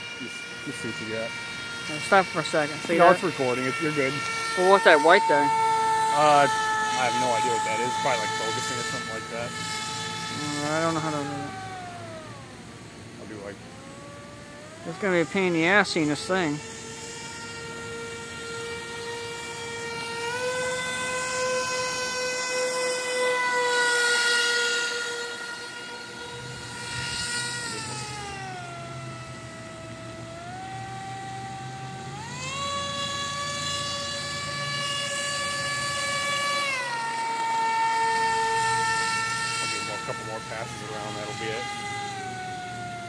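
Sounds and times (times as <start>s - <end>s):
model airboat engine whining: 0.0s - 43.0s.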